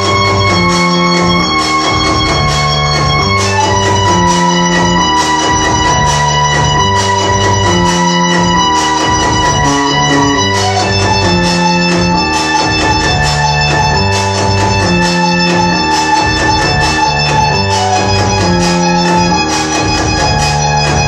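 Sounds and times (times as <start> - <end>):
high-pitched drone: 0.0 - 21.0
looping low synthesizer notes: 0.0 - 21.0.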